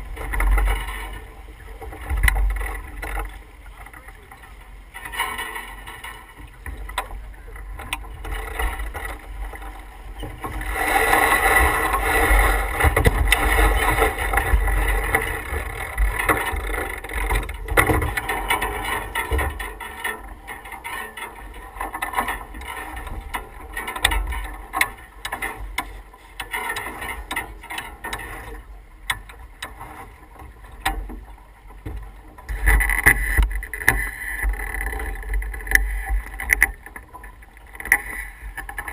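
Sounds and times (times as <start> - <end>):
water rushing along hull: 0.0 - 38.9.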